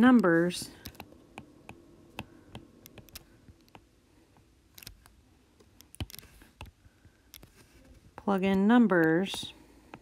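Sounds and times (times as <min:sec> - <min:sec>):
stylus tapping on tablet screen: 0:00.2 - 0:10.0.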